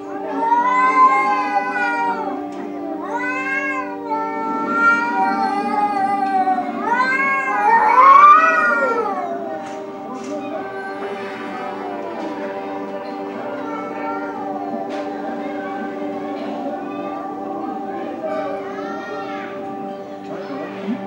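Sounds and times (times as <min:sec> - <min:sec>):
cats yowling: 0:00.0 - 0:20.6
background music: 0:00.0 - 0:21.0.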